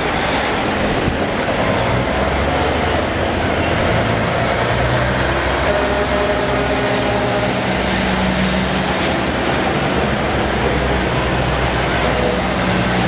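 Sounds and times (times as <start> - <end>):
diesel truck engines rumbling: 0.0 - 13.0
road noise: 0.0 - 13.0.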